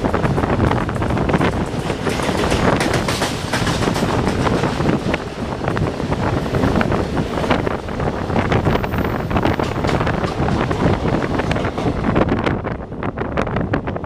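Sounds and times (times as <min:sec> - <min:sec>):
wheels clicking on rails: 0:00.0 - 0:12.6
train wheels rumbling: 0:00.0 - 0:14.0
wind rushing on microphone: 0:00.0 - 0:14.0.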